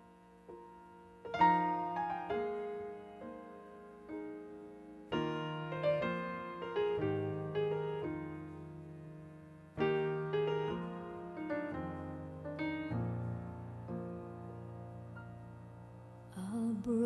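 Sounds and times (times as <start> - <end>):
solo piano chords: 0.0 - 17.0.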